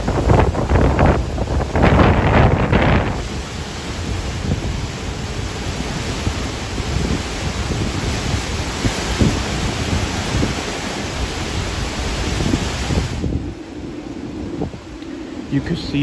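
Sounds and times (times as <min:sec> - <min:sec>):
wind and rain hiss: 0:00.0 - 0:16.0
wind buffeting microphone: 0:00.0 - 0:16.0.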